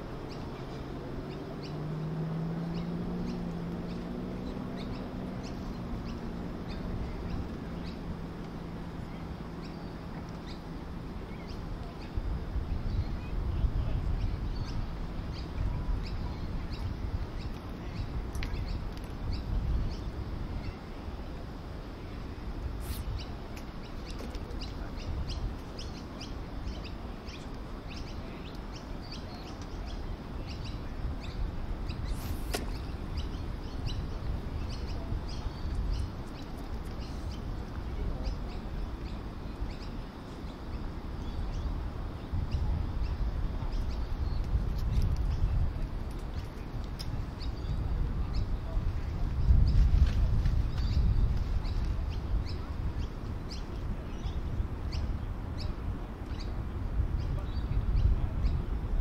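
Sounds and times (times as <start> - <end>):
small birds chirping: 0.0 - 59.0
steady low rumble: 0.0 - 59.0.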